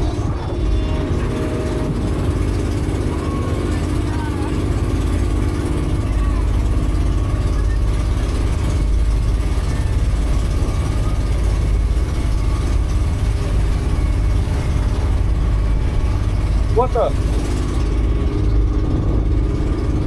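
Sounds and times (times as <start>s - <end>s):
boat engine humming: 0.0s - 20.0s
water noise: 0.0s - 20.0s.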